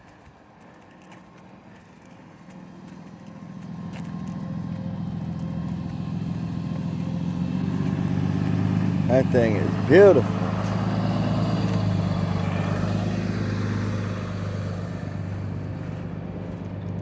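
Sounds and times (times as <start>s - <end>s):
vehicle engine running: 1.4s - 17.0s.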